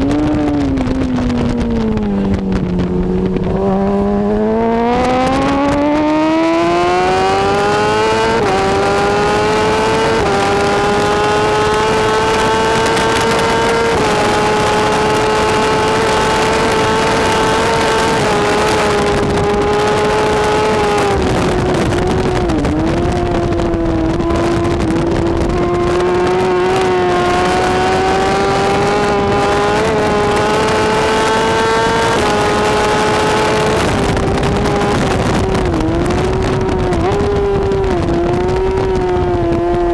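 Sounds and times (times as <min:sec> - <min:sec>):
motorcycle engine revving through gears: 0:00.0 - 0:39.9
steady rush of noise: 0:00.0 - 0:39.9.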